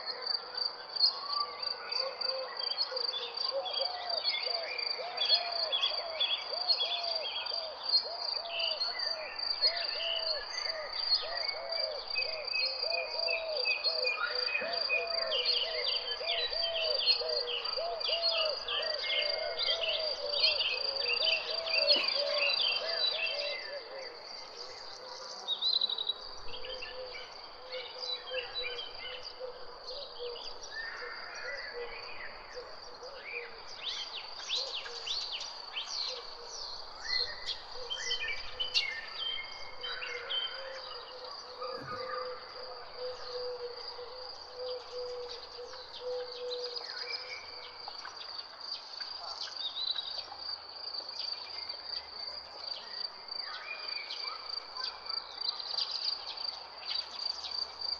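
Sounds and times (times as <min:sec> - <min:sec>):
songbirds chirping and singing: 0:00.0 - 0:57.9.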